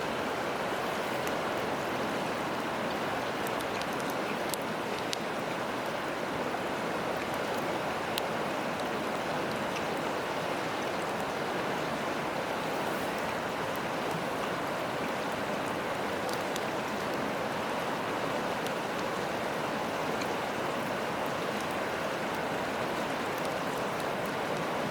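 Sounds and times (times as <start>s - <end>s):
campfire crackles: 0.0s - 24.9s
river rushing: 0.0s - 24.9s.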